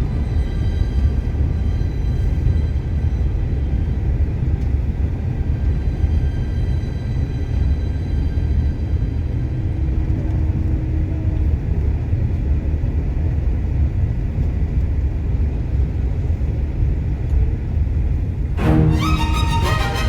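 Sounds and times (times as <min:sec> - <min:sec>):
bus engine and tyre rumble: 0:00.0 - 0:18.6.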